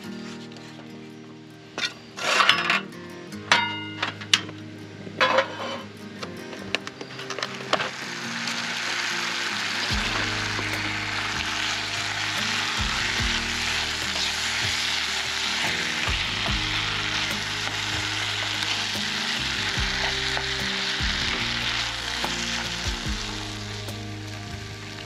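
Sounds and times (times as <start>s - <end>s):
background music with bass: 2.4s - 25.0s
sizzling hiss: 4.4s - 25.0s.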